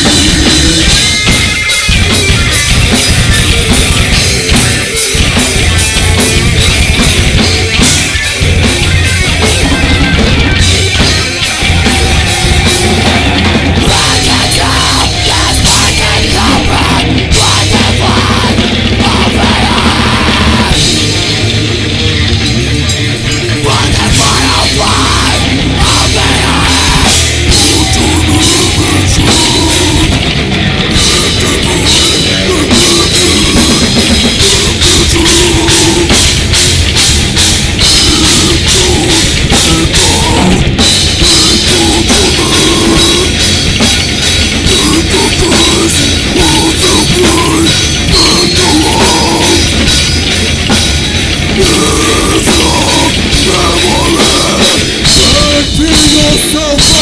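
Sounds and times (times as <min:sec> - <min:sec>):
distorted electric guitars: 0:00.0 - 0:57.0
drum kit: 0:00.0 - 0:57.0.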